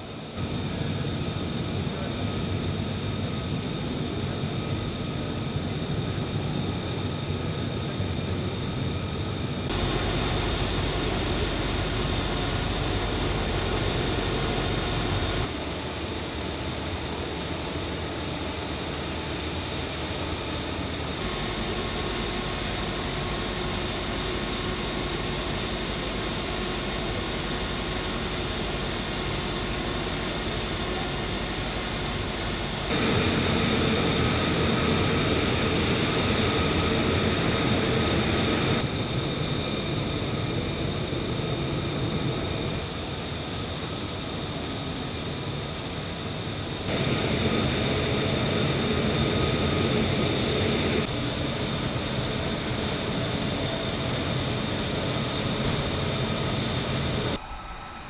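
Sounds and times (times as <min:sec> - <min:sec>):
jet engine whine and rumble: 0:00.0 - 0:58.0.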